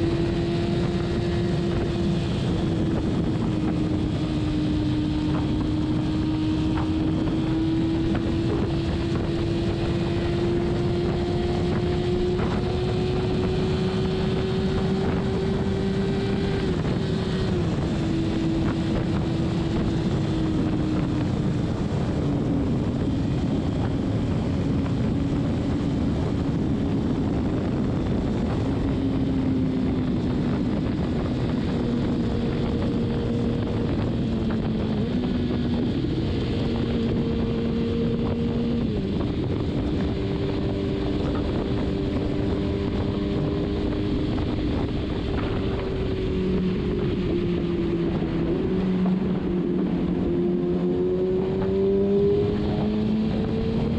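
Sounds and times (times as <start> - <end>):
motorcycle engine cruising: 0.0 - 53.9
wind rush on microphone: 0.0 - 53.9.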